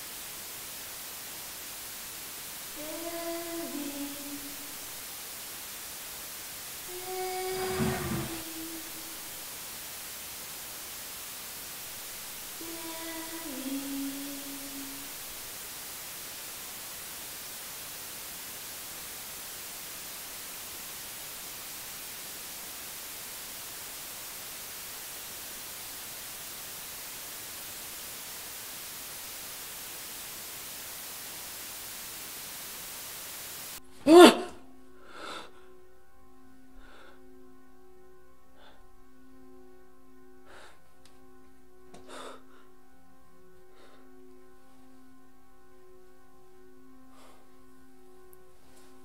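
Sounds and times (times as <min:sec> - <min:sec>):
room tone hiss: 0:00.0 - 0:49.0.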